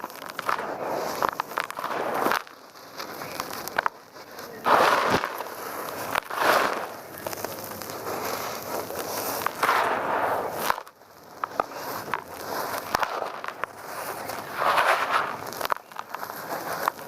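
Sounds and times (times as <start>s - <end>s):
dry mud crunching and crumbling: 0.0s - 17.0s.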